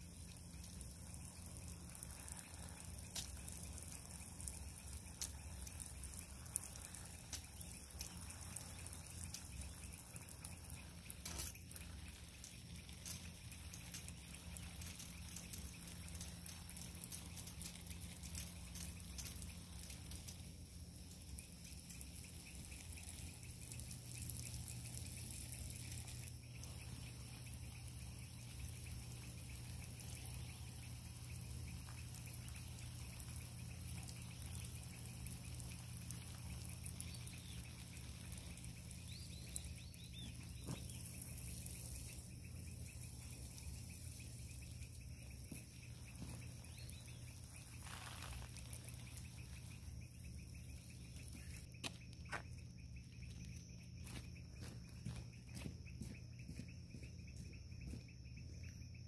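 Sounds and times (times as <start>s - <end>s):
hose spraying water: 0.0s - 51.7s
low steady hum: 0.0s - 59.0s.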